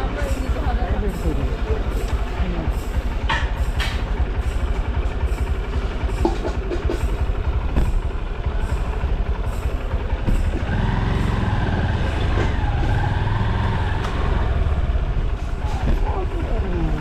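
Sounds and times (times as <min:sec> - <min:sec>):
engine drone with whine: 0:00.0 - 0:17.0
road noise low rumble: 0:00.0 - 0:17.0.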